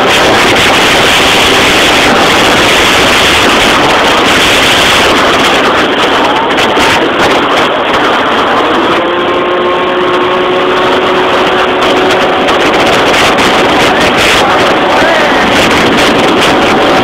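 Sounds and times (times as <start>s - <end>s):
rushing wind noise: 0.0s - 17.0s
scooter engine running hard: 0.0s - 17.0s.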